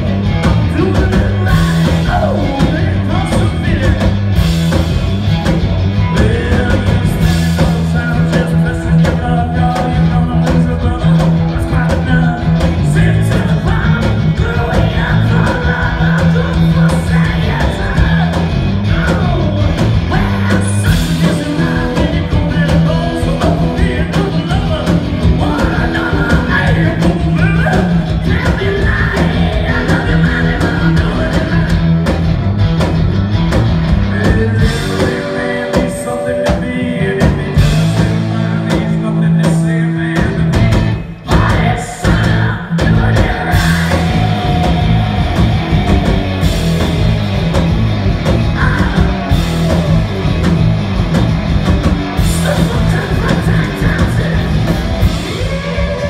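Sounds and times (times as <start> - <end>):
shouted lead vocal: 0.0 - 4.4, 6.0 - 32.0, 34.0 - 56.0
amplified electric guitars: 0.0 - 56.0
drum kit: 0.0 - 56.0.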